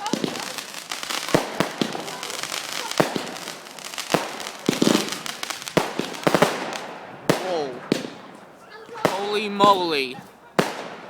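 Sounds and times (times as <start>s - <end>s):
constant crackle: 0.0s - 11.0s
firecracker bangs and pops: 0.0s - 11.0s.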